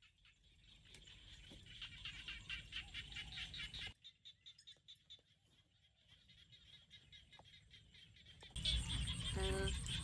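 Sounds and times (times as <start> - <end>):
frogs chirping: 0.0 - 10.0.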